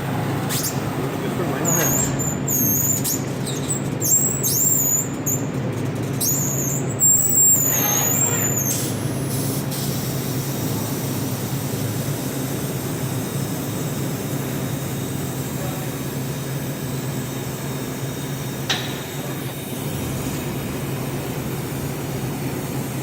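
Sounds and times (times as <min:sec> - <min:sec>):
welding machine humming: 0:00.0 - 0:23.0.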